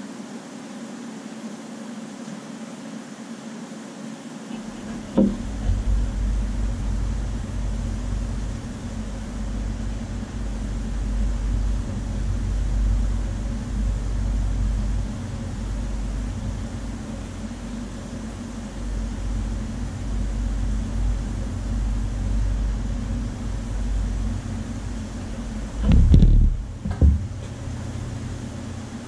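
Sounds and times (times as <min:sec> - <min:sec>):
low electric hum: 0:00.0 - 0:29.0.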